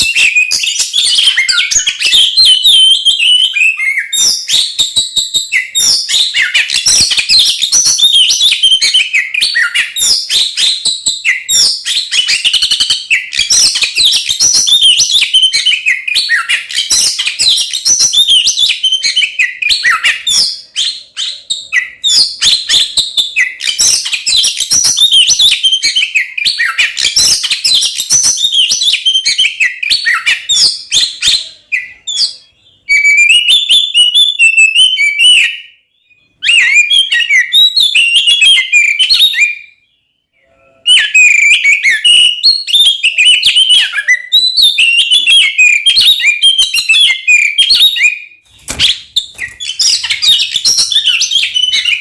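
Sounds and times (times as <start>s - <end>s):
bird singing whistles and chatters: 0.0s - 52.0s.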